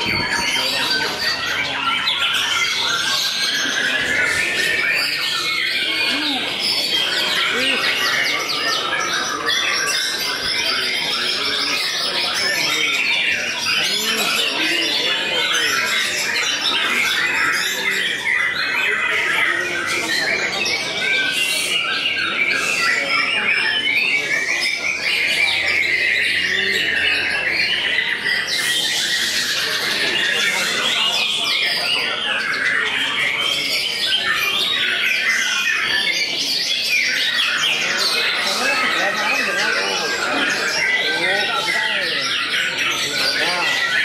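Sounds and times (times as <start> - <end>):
birds whistling and chattering: 0.0 - 44.0
other caged songbirds singing: 0.0 - 44.0.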